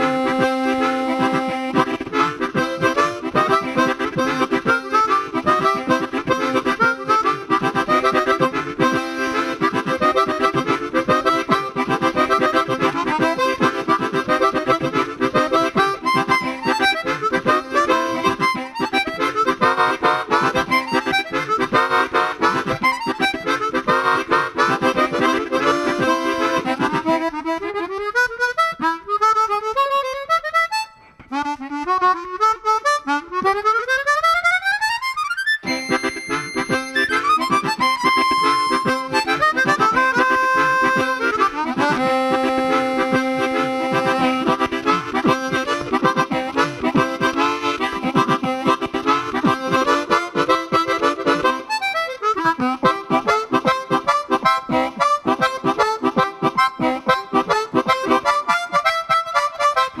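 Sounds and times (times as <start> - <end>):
harmonica playing fast runs: 0.0 - 60.0.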